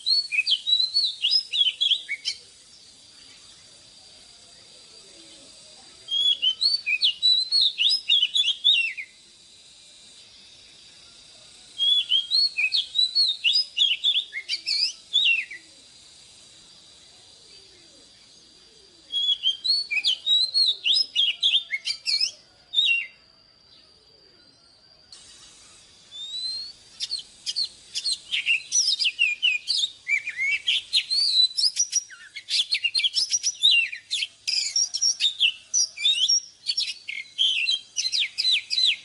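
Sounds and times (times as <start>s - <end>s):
bird singing whistled notes: 0.0s - 39.0s.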